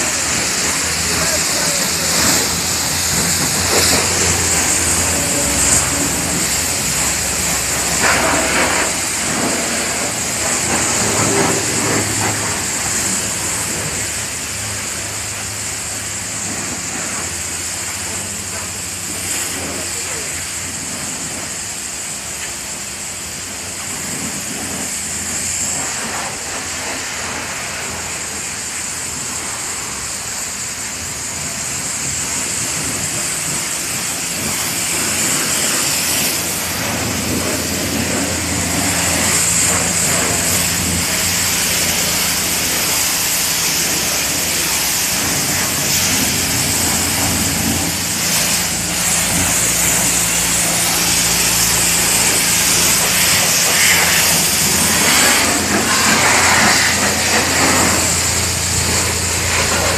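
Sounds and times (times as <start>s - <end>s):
low motor hum: 0.0s - 19.7s, 31.5s - 59.9s
washing machine hiss: 0.0s - 59.9s.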